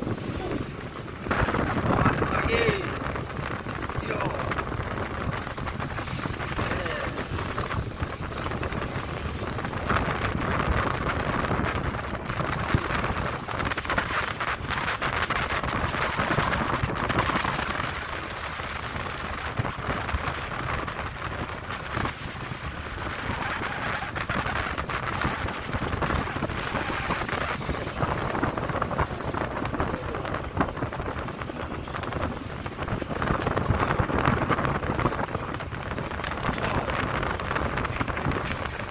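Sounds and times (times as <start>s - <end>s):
sea water splashing along hull: 0.0s - 38.9s
wind buffeting microphone: 0.0s - 38.9s.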